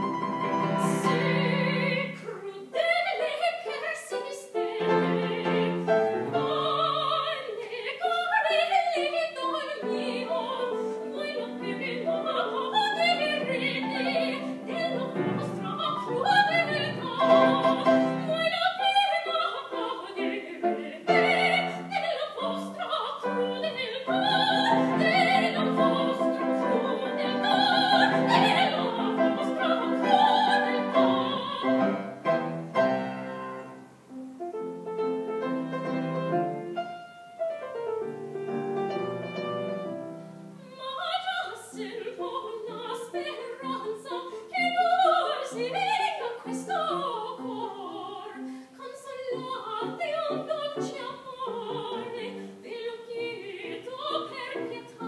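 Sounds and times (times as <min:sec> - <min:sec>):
woman singing opera: 0:00.0 - 0:32.3, 0:40.6 - 0:55.0
piano accompaniment: 0:00.0 - 0:48.5.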